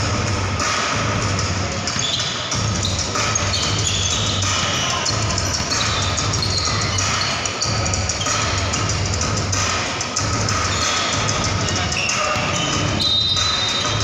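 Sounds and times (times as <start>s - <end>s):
indoor hall din: 0.0s - 14.0s.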